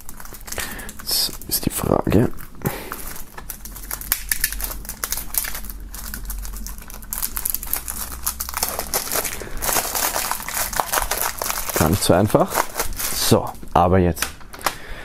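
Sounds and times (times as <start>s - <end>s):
plastic film crinkling: 0.0s - 14.9s.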